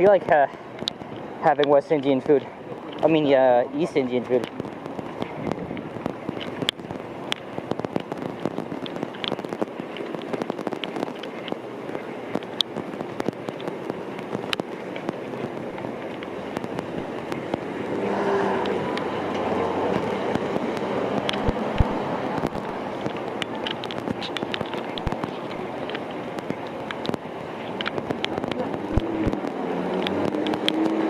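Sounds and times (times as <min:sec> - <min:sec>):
light rain hiss: 0:00.0 - 0:31.0
raindrop ticks: 0:00.0 - 0:31.0
tyres hissing on wet street: 0:00.0 - 0:31.0.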